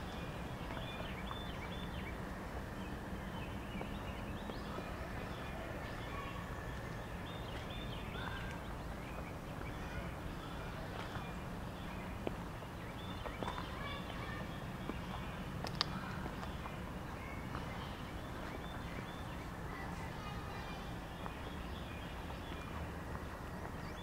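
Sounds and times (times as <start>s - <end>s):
birds chirping: 0.0s - 24.0s
outdoor background hum: 0.0s - 24.0s.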